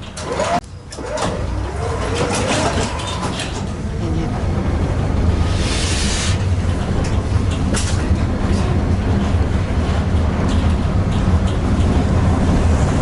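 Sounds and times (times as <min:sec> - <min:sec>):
tram wheels droning on rails: 0:00.0 - 0:13.0.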